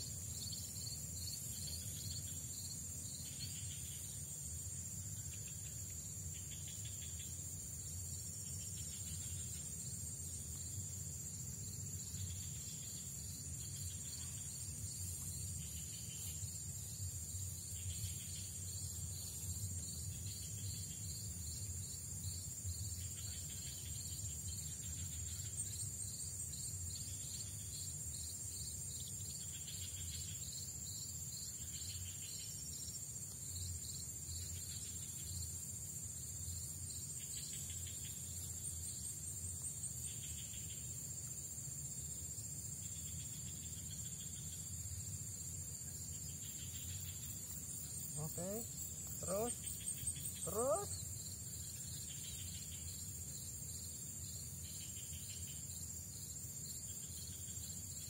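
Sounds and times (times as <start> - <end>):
rhythmic insect chirp: 0.0 - 58.0.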